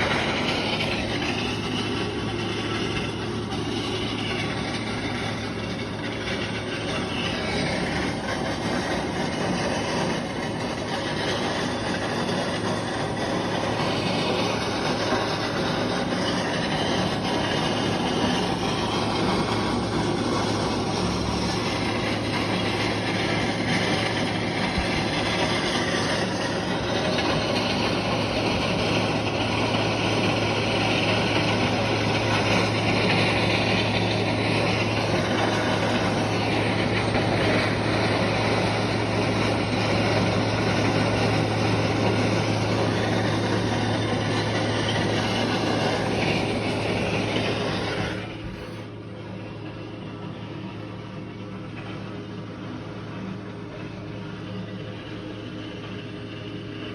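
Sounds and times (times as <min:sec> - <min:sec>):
loud mechanical noise: 0:00.0 - 0:56.9
low hum: 0:00.0 - 0:56.9.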